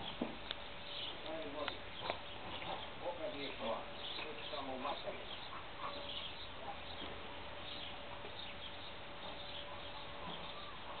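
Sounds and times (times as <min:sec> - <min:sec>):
faint constant hum: 0:00.0 - 0:11.0
steady background hiss: 0:00.0 - 0:11.0.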